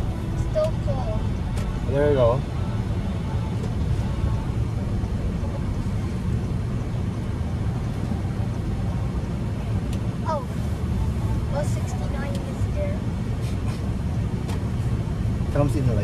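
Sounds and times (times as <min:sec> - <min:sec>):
car road and drivetrain rumble: 0:00.0 - 0:16.0.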